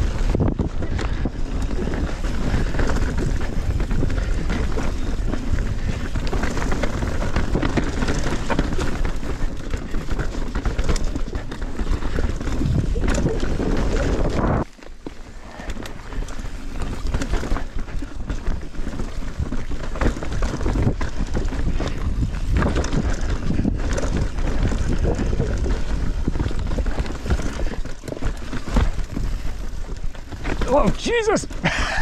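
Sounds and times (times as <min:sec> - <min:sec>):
wind buffeting microphone: 0:00.0 - 0:14.7, 0:15.6 - 0:30.9
bicycle rumbling and rattling: 0:00.0 - 0:32.0.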